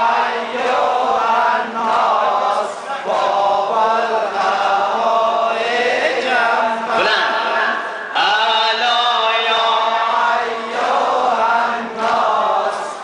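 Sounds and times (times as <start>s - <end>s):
man chanting over loudspeakers: 0.0s - 13.0s.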